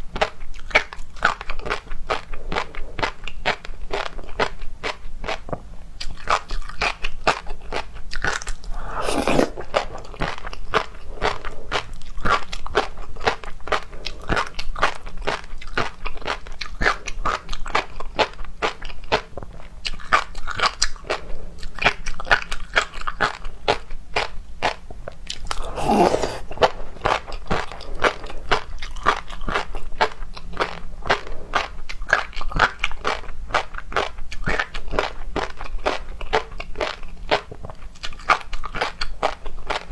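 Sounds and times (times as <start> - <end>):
crunching and chewing seafood: 0.1 - 39.9.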